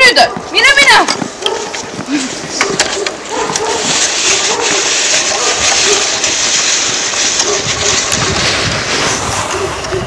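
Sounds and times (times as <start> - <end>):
footsteps crunching in snow: 0.0 - 10.0
cart rolling through snow: 0.1 - 10.0.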